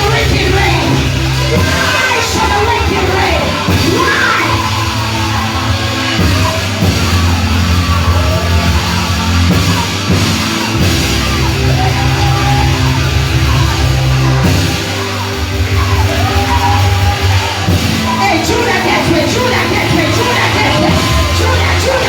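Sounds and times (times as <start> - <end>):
church band playing praise music: 0.0 - 22.0.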